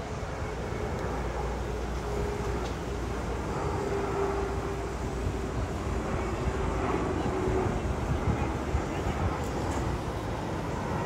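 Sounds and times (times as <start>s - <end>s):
jet airliner engine rumble: 0.0s - 11.0s.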